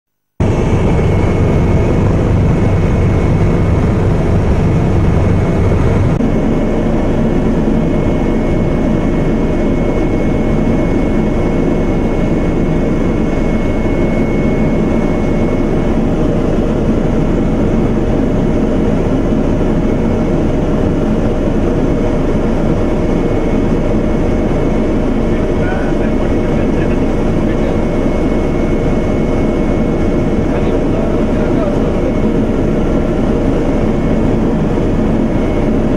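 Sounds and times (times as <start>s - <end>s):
faint high whine: 0.4s - 35.9s
helicopter engine and rotor drone: 0.4s - 35.9s.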